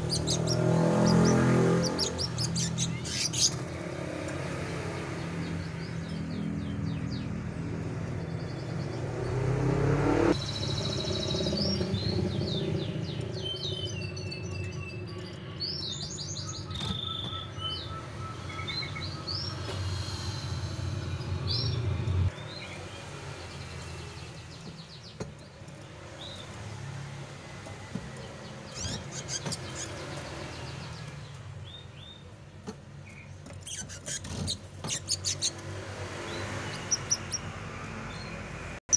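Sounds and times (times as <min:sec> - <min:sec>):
canaries chirping and trilling: 0:00.0 - 0:38.8.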